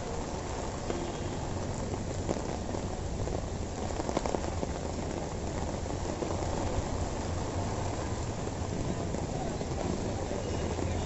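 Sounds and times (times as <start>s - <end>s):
heavy rain on a wet street: 0.0s - 11.0s
rain taps: 0.0s - 11.0s.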